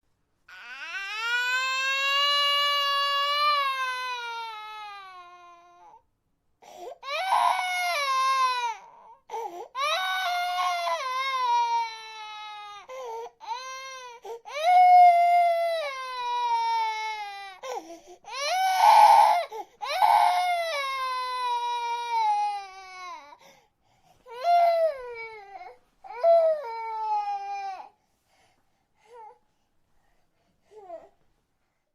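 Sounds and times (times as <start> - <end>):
baby crying in long wails: 0.5 - 6.0, 6.7 - 23.4, 24.3 - 28.0.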